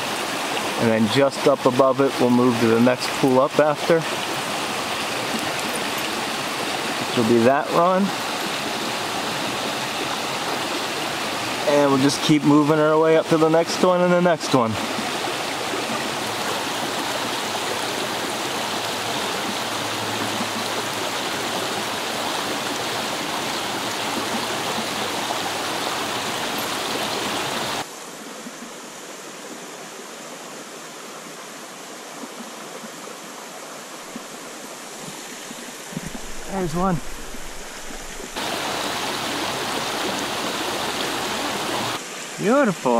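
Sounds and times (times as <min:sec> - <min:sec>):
brook rushing over rocks: 0:00.0 - 0:27.9, 0:34.1 - 0:42.9.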